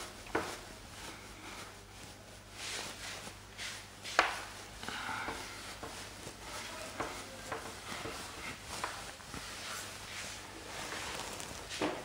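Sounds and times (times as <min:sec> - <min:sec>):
cloth wiping whiteboard: 0:00.0 - 0:12.0.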